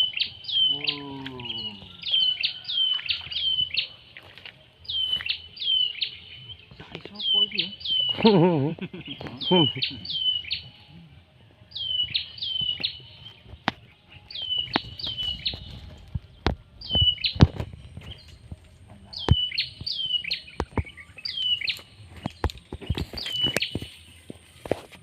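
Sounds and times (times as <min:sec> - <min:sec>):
bird calling: 0:00.0 - 0:10.8, 0:14.1 - 0:24.2.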